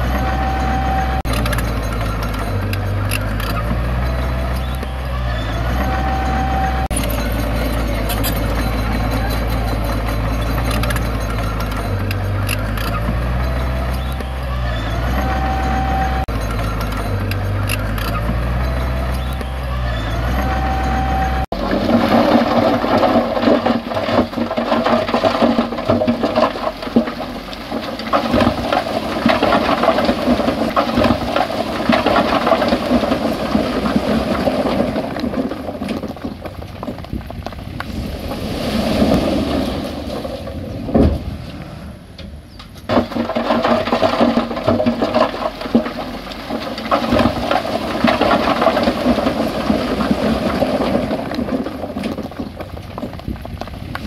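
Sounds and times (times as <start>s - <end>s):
soil and stones pouring: 0.0s - 41.7s, 42.9s - 54.0s.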